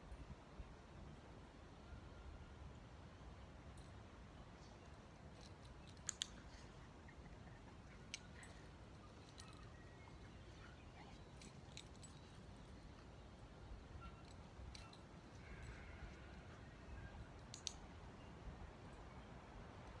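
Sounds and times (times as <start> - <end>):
faint outdoor ambience: 0.0 - 20.0.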